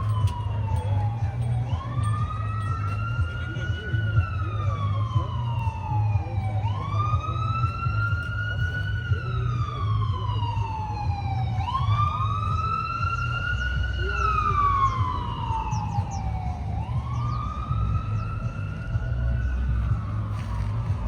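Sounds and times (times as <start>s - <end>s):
emergency siren wailing: 0.0s - 21.0s.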